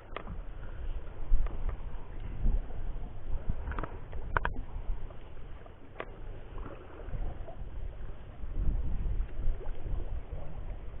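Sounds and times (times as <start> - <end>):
wind and water around a boat: 0.0 - 11.0.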